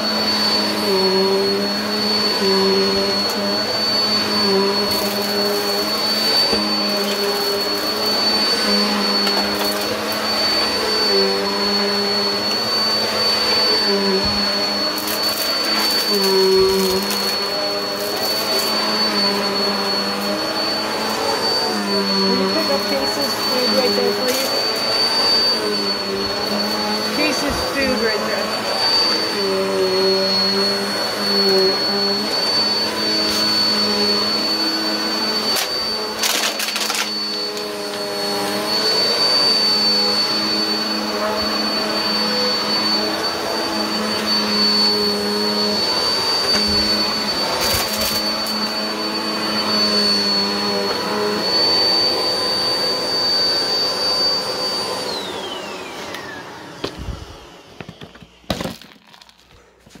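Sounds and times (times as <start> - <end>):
vacuum cleaner motor whine: 0.0 - 60.0.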